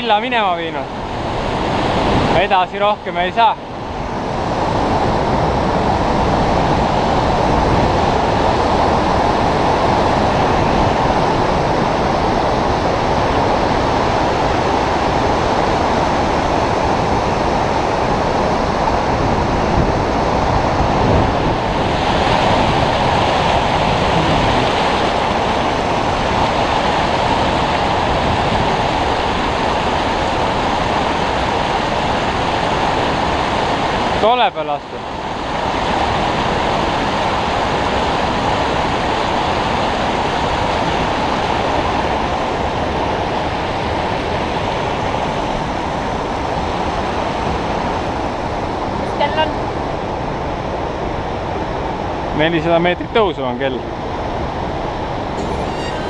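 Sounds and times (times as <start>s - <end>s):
river rushing over boulders: 0.0s - 52.7s.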